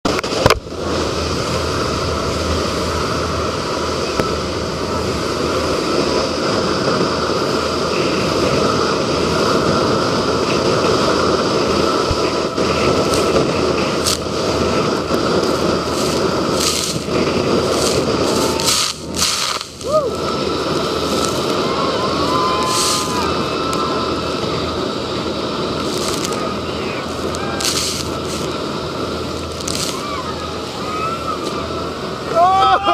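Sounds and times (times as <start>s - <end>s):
speedboat engine: 0.0s - 32.9s
wind and water spray: 0.0s - 32.9s.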